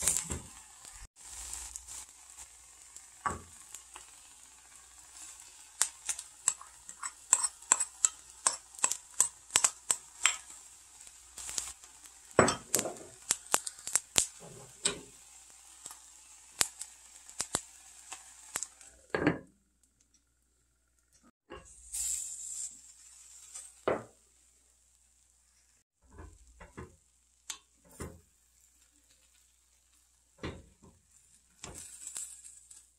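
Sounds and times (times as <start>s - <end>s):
rice sizzling and crackling: 0.0s - 32.9s.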